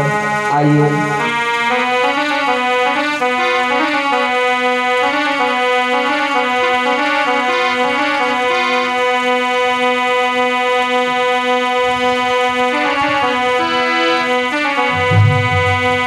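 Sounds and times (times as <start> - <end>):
harmonium drone and melody: 0.0 - 16.0.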